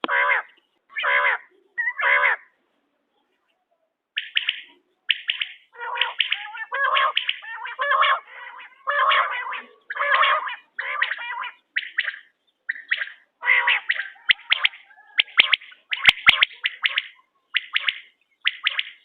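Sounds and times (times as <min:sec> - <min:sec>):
quail calling: 0:00.0 - 0:02.5, 0:04.2 - 0:19.0.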